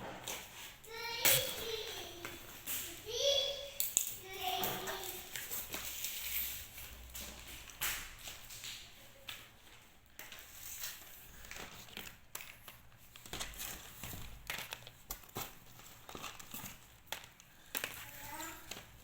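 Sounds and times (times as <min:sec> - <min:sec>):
small crackles: 0:00.2 - 0:19.0.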